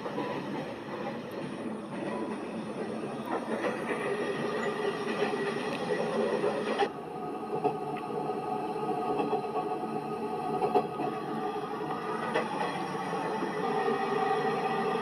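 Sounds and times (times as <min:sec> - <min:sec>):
train rumble and hiss: 0:00.0 - 0:15.0.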